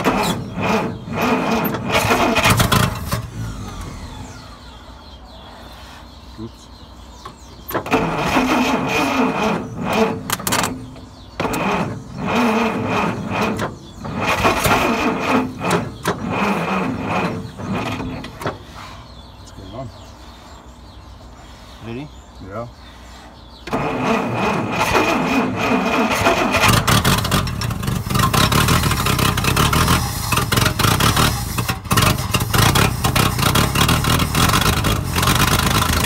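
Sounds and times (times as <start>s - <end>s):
truck engine cranking: 0.0s - 5.2s, 7.1s - 20.0s, 23.4s - 36.0s.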